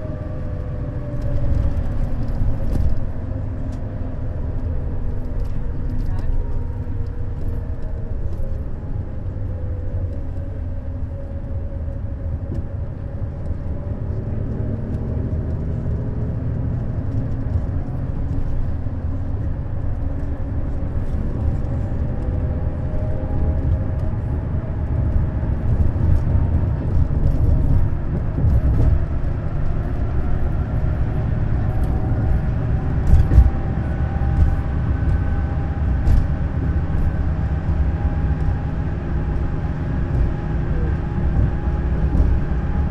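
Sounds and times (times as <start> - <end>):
coach engine and road rumble: 0.0 - 42.9.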